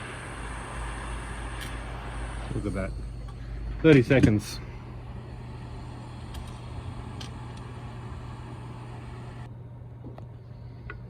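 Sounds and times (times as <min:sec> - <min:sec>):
air blower rushing: 0:00.0 - 0:09.5
low hum: 0:00.0 - 0:11.0.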